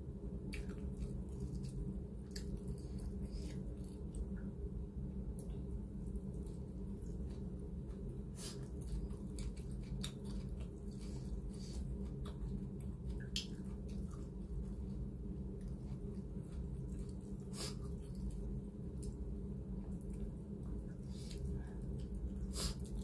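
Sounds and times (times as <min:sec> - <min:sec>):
steady low hum: 0:00.0 - 0:23.0
chewing and lip-smacking: 0:00.4 - 0:04.6, 0:05.3 - 0:23.0.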